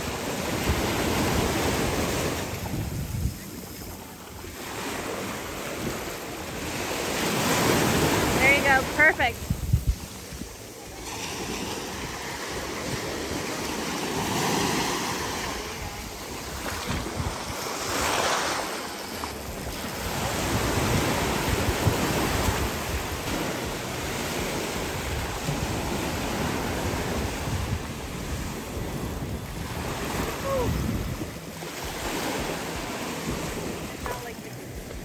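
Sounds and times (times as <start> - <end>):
wind buffeting microphone: 0.0 - 4.0, 7.2 - 14.7, 15.6 - 18.7, 19.3 - 35.0
surf washing onto beach: 0.0 - 35.0.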